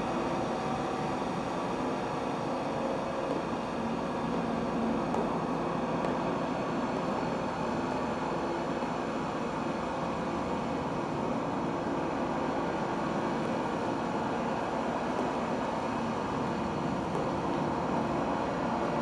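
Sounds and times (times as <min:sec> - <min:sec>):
dense noise drone: 0:00.0 - 0:19.0.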